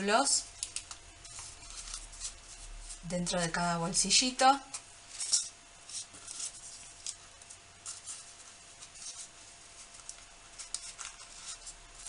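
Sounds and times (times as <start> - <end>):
paper rustling in hands: 0.6 - 3.6, 5.1 - 12.0.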